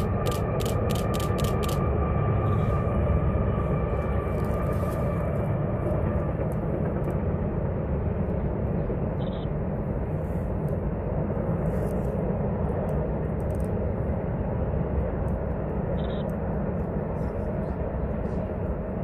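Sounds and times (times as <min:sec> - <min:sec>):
freight train rumbling on bridge: 0:00.0 - 0:19.0.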